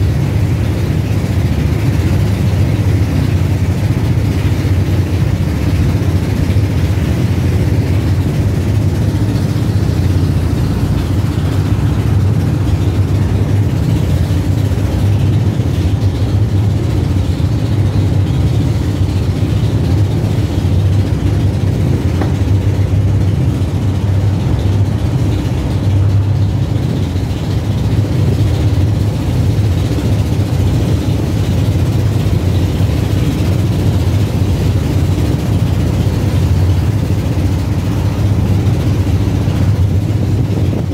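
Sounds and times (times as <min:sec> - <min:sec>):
boat engine droning: 0:00.0 - 0:40.9
rough waves: 0:00.0 - 0:40.9
wind: 0:00.0 - 0:40.9.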